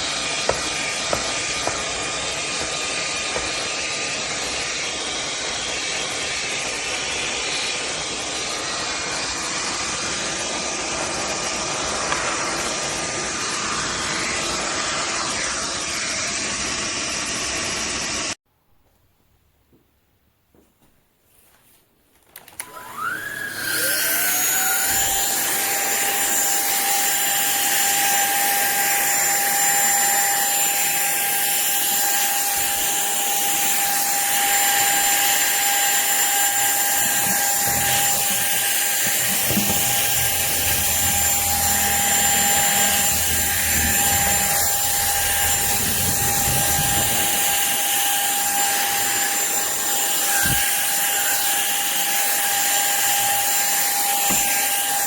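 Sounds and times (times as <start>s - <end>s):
vacuum cleaner motor whine: 0.0s - 18.4s, 22.2s - 55.0s.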